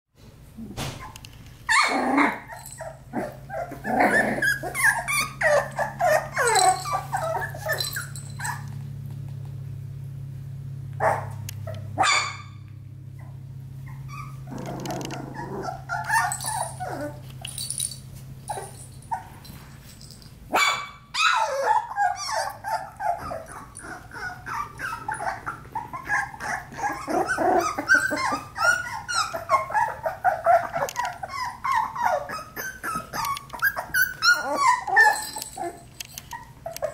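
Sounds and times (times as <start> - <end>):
puppies yipping and whimpering: 1.0 - 8.8, 13.2 - 17.7, 18.5 - 19.4, 20.6 - 36.9.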